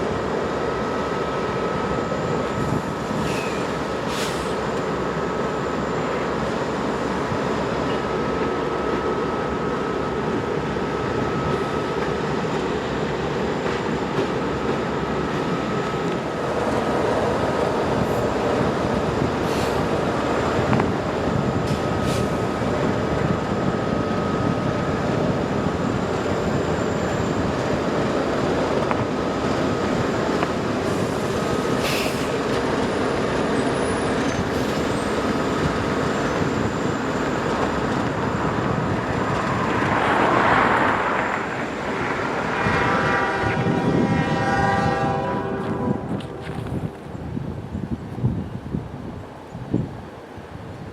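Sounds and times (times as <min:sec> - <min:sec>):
train cars rolling on rails: 0:00.0 - 0:50.9.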